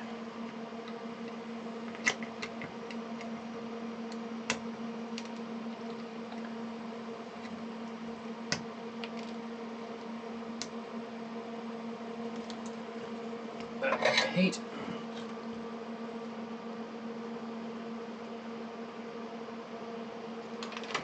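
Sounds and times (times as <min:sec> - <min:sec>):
bench equipment hum: 0:00.0 - 0:21.0.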